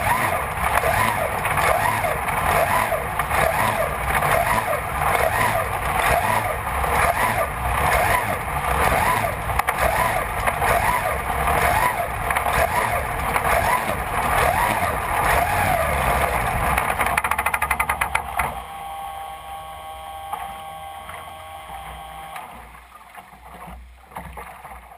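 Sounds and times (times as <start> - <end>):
racing boat engine running hard: 0.0 - 24.9.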